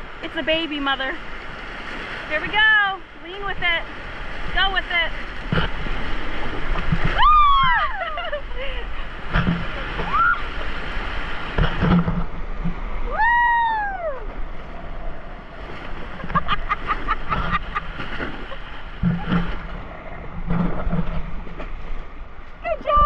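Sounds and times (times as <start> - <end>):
whitewater rushing and splashing: 0.0 - 23.0.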